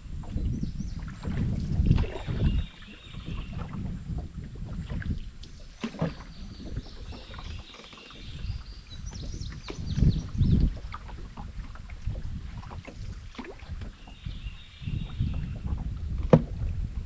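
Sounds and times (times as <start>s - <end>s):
paddle and water on hull: 0.0s - 17.0s.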